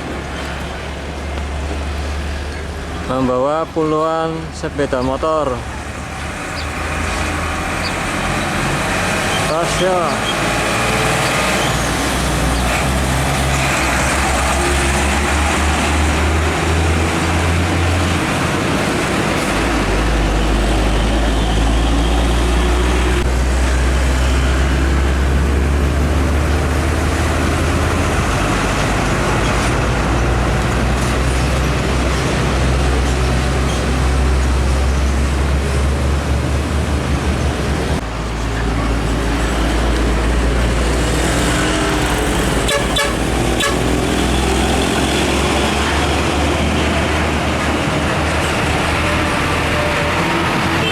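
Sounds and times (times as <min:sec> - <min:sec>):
diesel trucks driving past: 0:00.0 - 0:50.9
tyre and traffic noise: 0:00.0 - 0:50.9.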